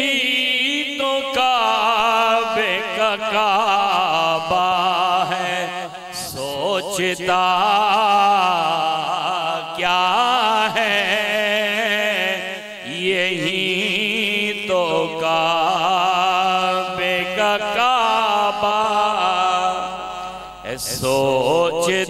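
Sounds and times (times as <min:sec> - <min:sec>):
man singing with vibrato: 0:00.0 - 0:22.0.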